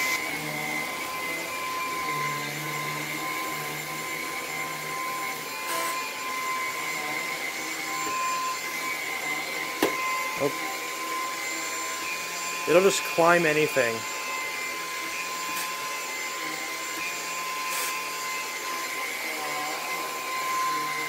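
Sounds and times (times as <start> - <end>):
vacuum motor whine: 0.0 - 21.0.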